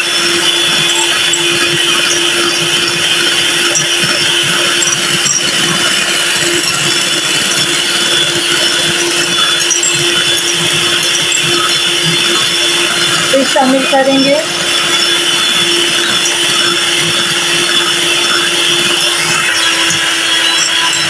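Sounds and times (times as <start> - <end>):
beaters whisking batter: 0.0 - 21.0
electric hand mixer humming: 0.0 - 21.0.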